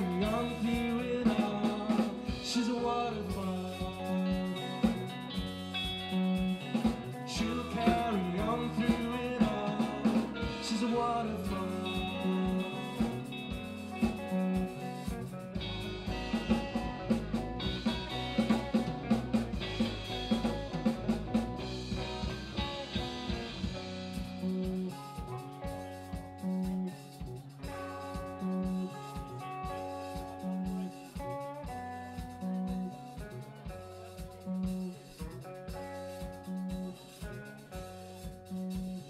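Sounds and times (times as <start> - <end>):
bass guitar: 0.0 - 39.0
drum kit: 0.0 - 39.0
electric guitars: 0.0 - 39.0.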